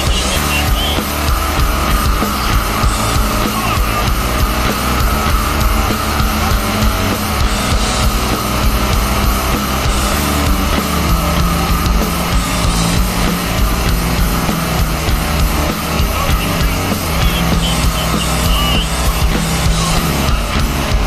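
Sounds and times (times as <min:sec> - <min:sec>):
heavy rock music: 0:00.0 - 0:21.0.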